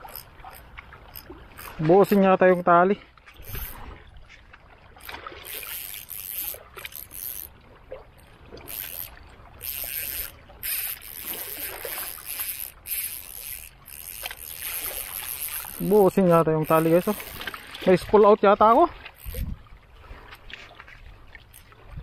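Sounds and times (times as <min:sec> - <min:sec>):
fishing reel drag buzzing: 0:00.0 - 0:02.7, 0:03.3 - 0:04.0, 0:05.0 - 0:19.6, 0:21.4 - 0:21.9.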